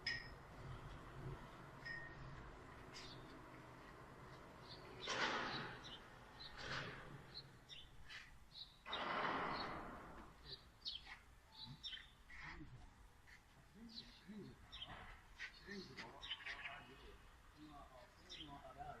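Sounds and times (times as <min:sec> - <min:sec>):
birds chirping: 0:01.8 - 0:19.0.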